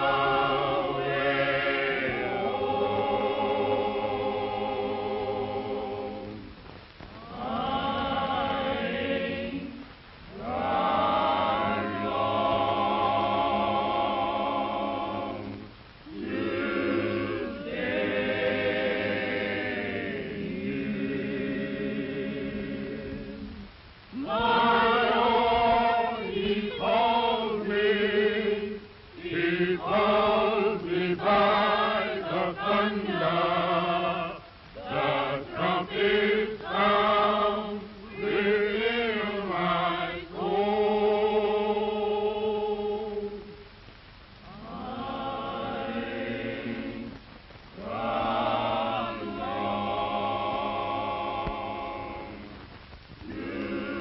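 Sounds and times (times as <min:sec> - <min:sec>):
choir singing: 0:00.0 - 0:06.5, 0:07.2 - 0:23.6, 0:24.2 - 0:43.6, 0:44.5 - 0:47.2, 0:47.8 - 0:52.6, 0:53.2 - 0:54.0.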